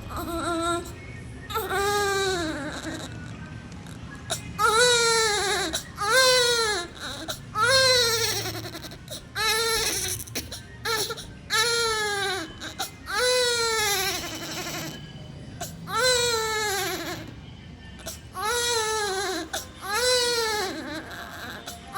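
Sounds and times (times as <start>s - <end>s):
newborn baby crying: 0.0s - 17.4s, 18.0s - 21.9s.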